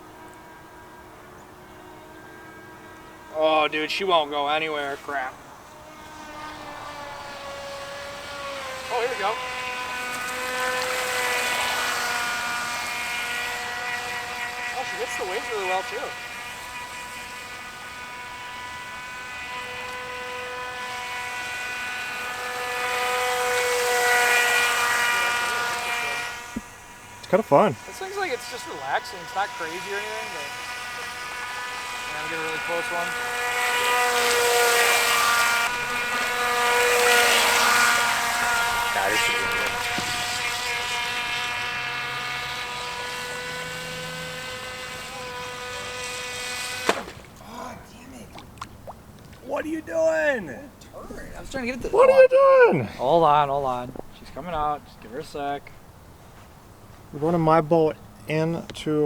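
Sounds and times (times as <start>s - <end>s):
electric motor whining: 0.0s - 59.0s.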